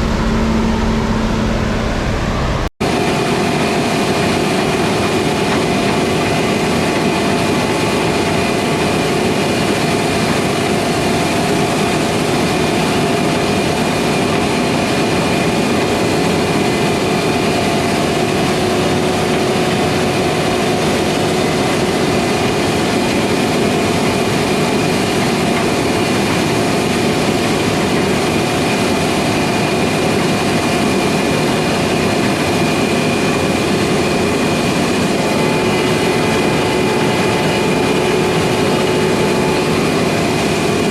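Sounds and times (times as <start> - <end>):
farm machinery engine drone: 0.0 - 40.9
steady whining tones: 0.0 - 40.9.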